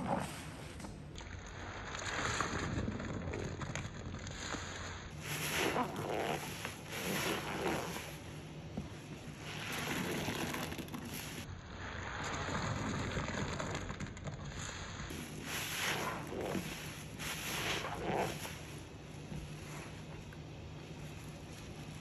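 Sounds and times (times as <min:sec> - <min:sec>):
water splashing and sloshing: 0:01.0 - 0:13.1, 0:14.6 - 0:22.0.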